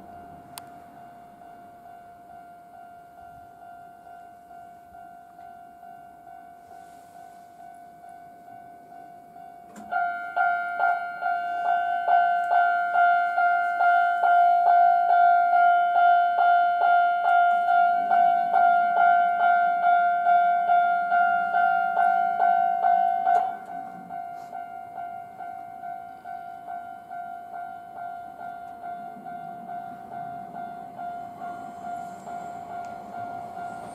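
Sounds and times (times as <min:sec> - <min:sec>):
level crossing bell ringing: 0:01.0 - 0:33.9.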